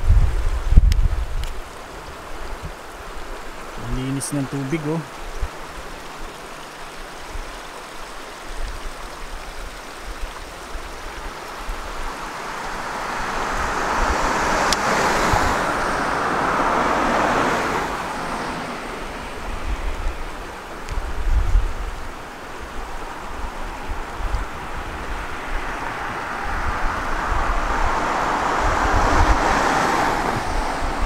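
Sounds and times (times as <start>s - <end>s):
wind buffeting microphone: 0.0s - 3.5s, 8.5s - 31.0s
river rushing over gravel: 0.0s - 31.0s.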